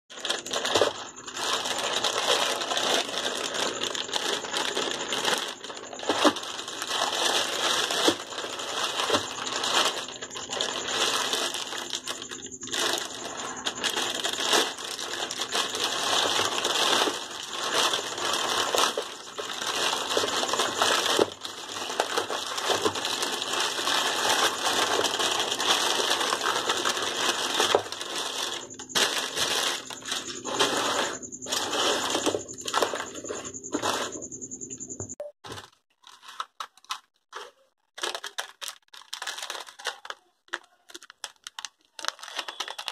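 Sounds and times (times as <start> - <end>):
plastic packaging crackling: 0.1 - 34.3, 35.4 - 42.9.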